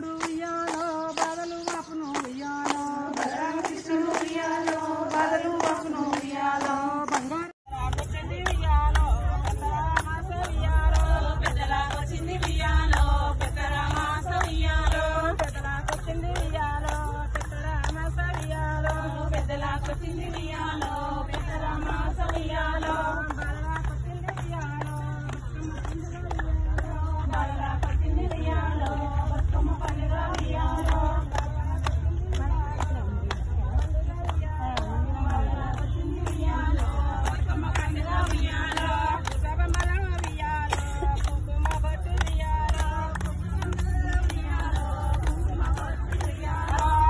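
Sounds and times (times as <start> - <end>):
hand claps: 0.0 - 47.0
several voices singing: 0.0 - 47.0.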